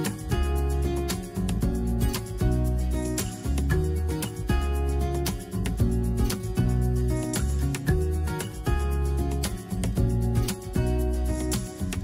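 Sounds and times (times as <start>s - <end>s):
instrumental music with bass beat: 0.0s - 12.0s.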